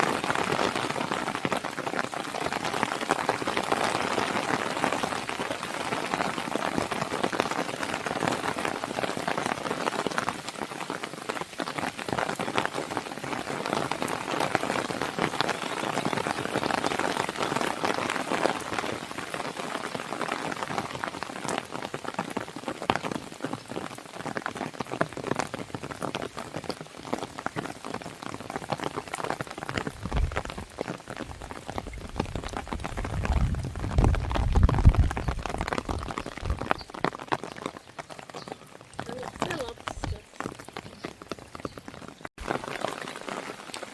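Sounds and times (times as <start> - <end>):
rain pattering on a window: 0.0 - 43.9.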